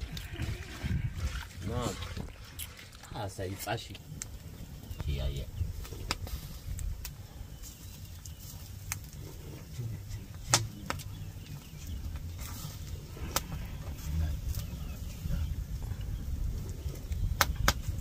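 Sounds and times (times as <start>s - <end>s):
steady low rumble: 0.0s - 18.0s
wood fire burning: 1.4s - 18.0s
burning wood popping: 2.0s - 18.0s.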